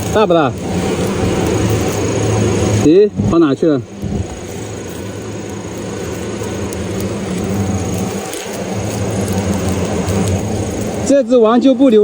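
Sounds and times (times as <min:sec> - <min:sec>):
hornets buzzing: 0:00.0 - 0:12.0.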